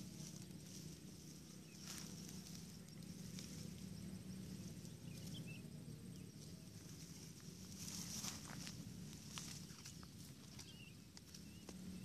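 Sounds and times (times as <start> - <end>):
dry grass rustling and crackling: 0.0 - 12.0
steady low hum: 0.0 - 12.0.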